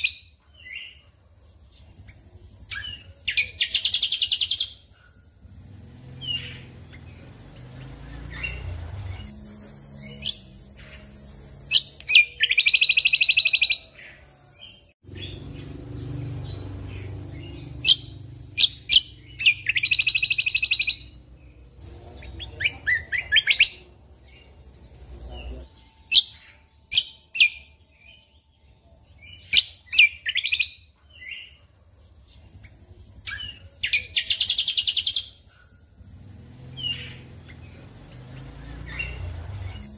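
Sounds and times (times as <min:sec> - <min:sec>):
bird singing with buzzy rattles: 0:00.0 - 0:39.9.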